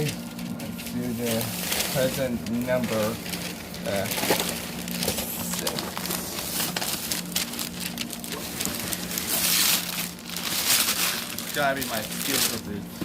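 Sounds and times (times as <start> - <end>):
wrapping paper rustling and tearing: 0.0 - 12.9.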